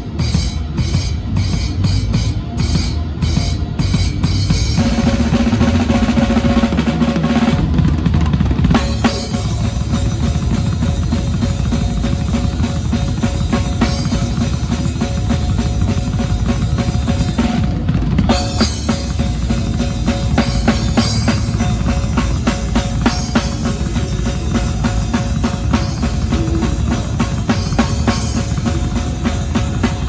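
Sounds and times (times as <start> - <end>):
kick and snare drum strokes: 0.0 - 30.0
band playing a song: 2.5 - 30.0.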